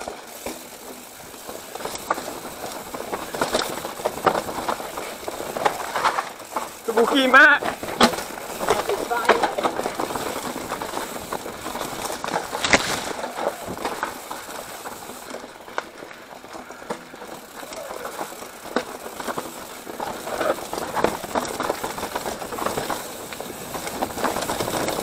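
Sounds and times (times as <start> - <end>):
bike rattling and knocking: 0.0 - 25.0
bike tyres rolling over dirt: 0.0 - 25.0.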